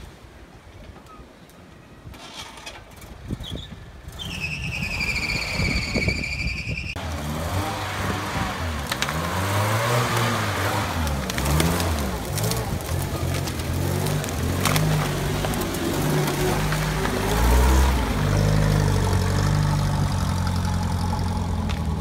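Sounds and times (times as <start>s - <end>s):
wheels churning mud: 2.1s - 22.0s
off-road vehicle engine revving: 4.0s - 22.0s.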